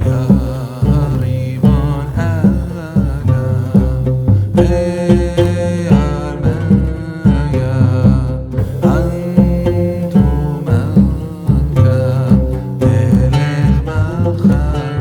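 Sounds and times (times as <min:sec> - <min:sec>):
music with beat and strings: 0:00.0 - 0:15.0.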